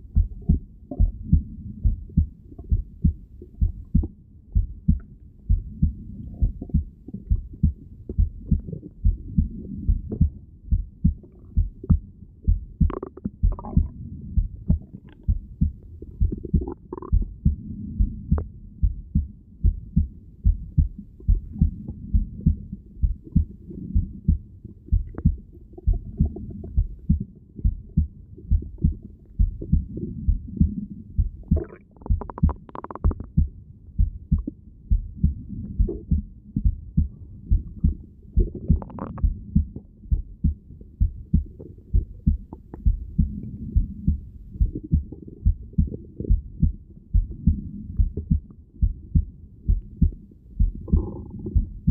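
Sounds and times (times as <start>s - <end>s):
heartbeat through stethoscope: 0.0s - 51.9s.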